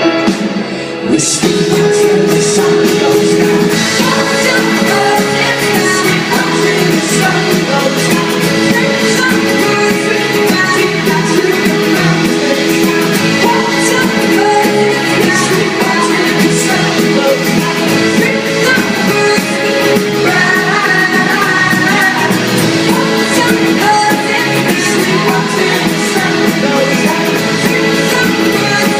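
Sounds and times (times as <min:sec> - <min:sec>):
guitar: 0:00.0 - 0:28.9
live folk rock band: 0:00.0 - 0:28.9
person singing: 0:00.0 - 0:28.9.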